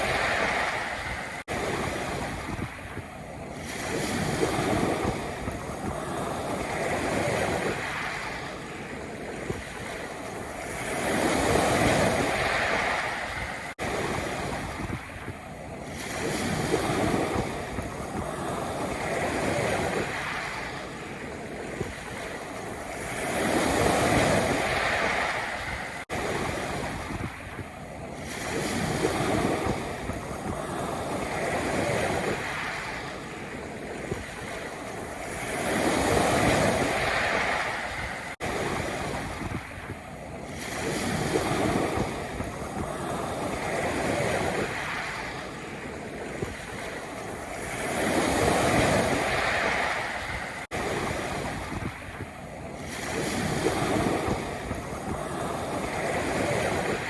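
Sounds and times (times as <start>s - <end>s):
waves washing onto pebble beach: 0.0s - 57.0s.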